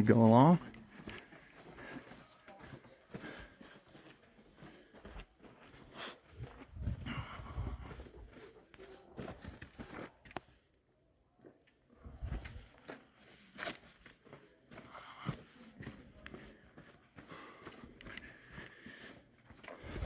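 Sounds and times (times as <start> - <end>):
footsteps on dirt trail: 0.0 - 10.5, 12.0 - 20.0.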